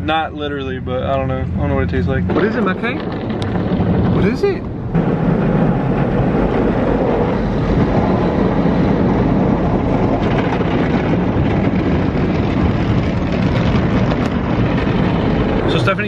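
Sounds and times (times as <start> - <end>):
car wash water spray rushing: 0.0 - 16.0.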